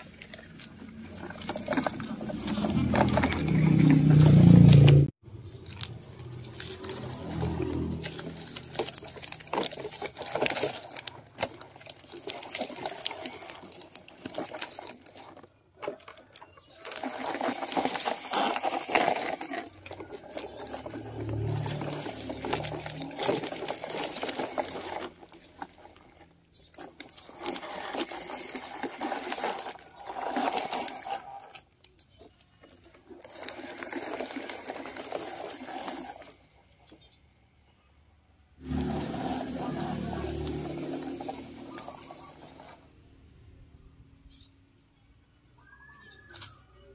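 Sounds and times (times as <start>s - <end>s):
plastic toy trucks rattling: 0.0s - 37.5s, 38.4s - 43.6s.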